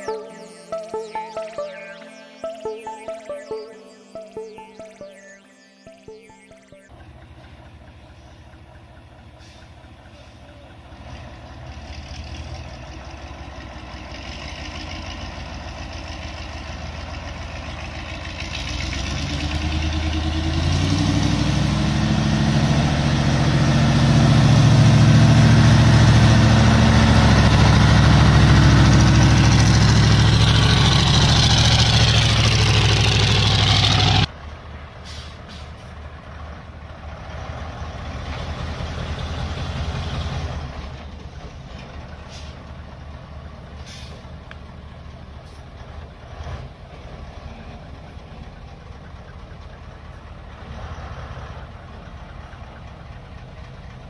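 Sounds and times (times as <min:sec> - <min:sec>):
heavy truck diesel engine: 0:06.9 - 0:54.0.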